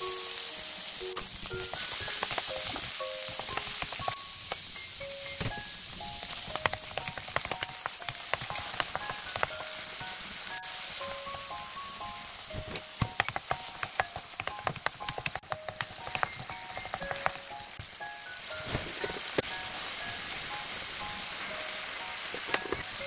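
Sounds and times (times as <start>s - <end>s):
food sizzling in a frying pan: 0.0s - 23.0s
soft background melody: 0.0s - 23.0s.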